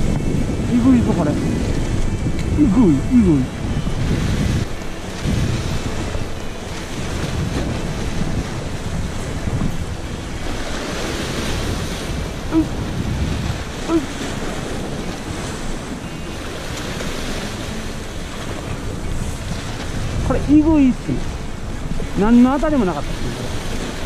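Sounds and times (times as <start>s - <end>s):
waves breaking on rocks: 0.0s - 24.0s
wind buffeting microphone: 0.0s - 24.0s.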